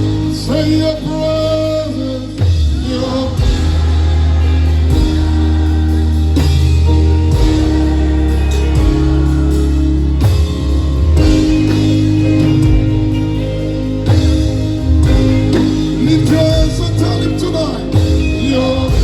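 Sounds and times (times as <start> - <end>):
gospel band playing: 0.0 - 19.0.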